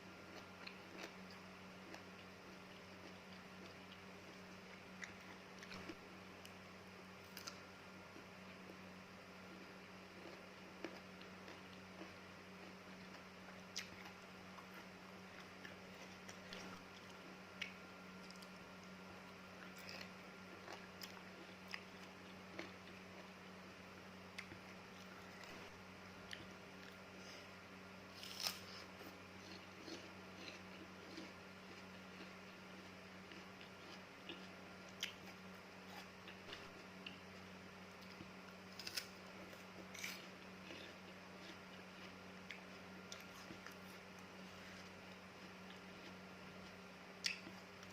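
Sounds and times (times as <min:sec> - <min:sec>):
low steady hum: 0:00.0 - 0:47.9
person chewing crisp fruit: 0:00.2 - 0:47.9.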